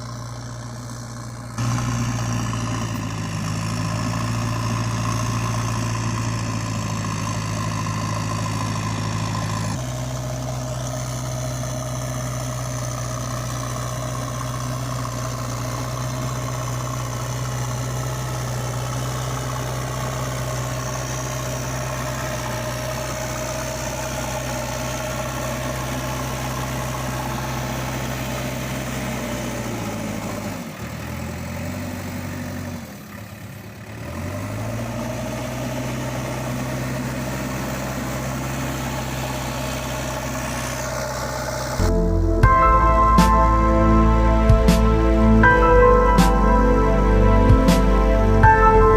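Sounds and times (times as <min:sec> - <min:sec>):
heavy vehicle engine idling: 0:00.0 - 0:48.9.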